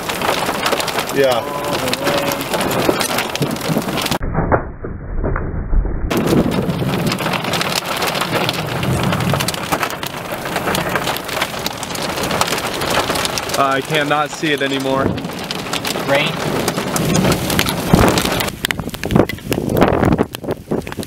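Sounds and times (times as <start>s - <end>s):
heavy rain pattering: 0.0s - 4.2s, 6.1s - 21.0s
low rumble: 1.4s - 20.5s.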